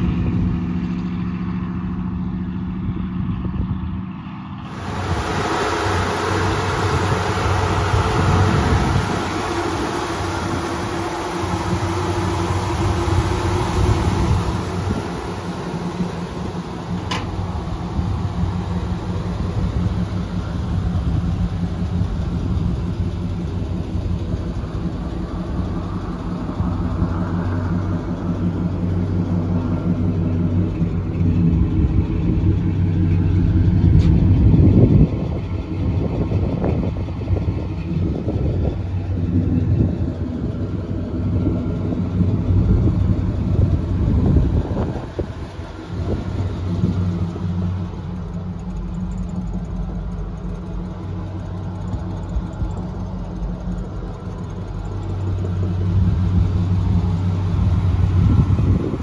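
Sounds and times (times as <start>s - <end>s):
vee eight engine idling: 0.0s - 59.0s.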